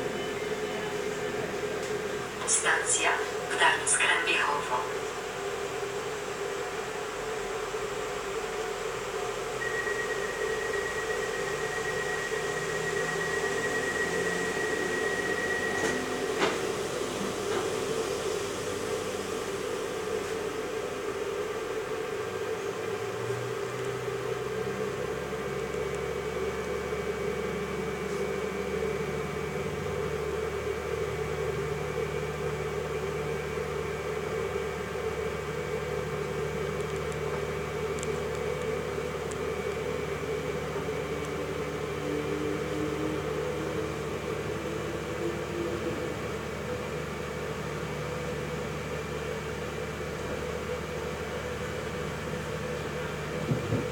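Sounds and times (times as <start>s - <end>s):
deep diesel engine tones: 0.0s - 53.9s
train interior drone: 0.0s - 53.9s.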